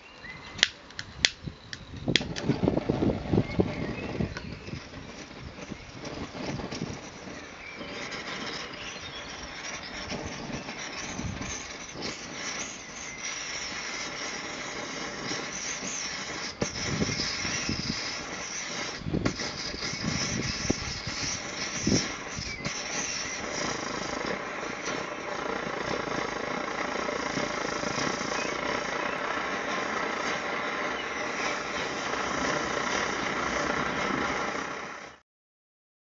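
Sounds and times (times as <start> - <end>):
gas stove burner hissing: 0.0 - 35.2
wind buffeting microphone: 0.5 - 34.6.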